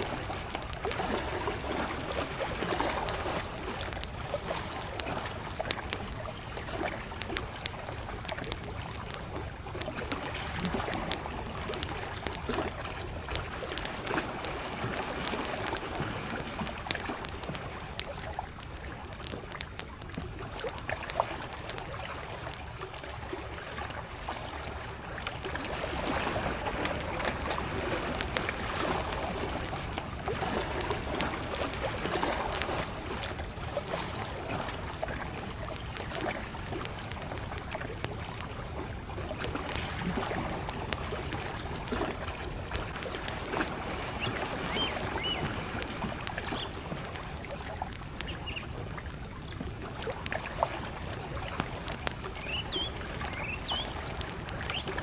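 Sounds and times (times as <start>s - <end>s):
campfire crackling and popping: 0.0s - 55.0s
small waves lapping: 0.0s - 55.0s.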